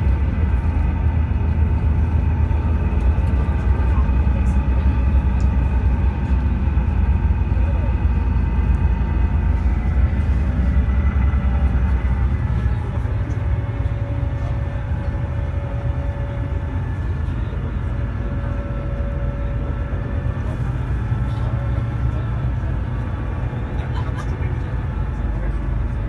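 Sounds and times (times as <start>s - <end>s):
bus engine rumble: 0.0s - 26.0s
faint whine: 0.0s - 26.0s.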